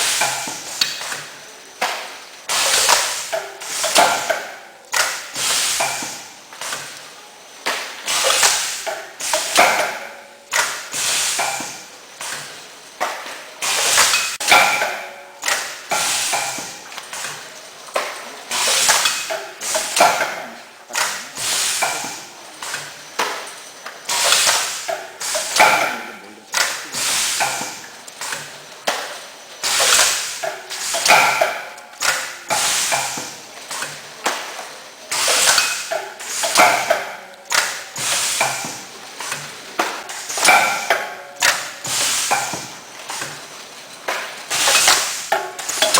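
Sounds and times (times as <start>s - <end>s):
machine hissing: 0.0s - 45.9s
packaging machine knocking and clanking: 0.0s - 45.9s.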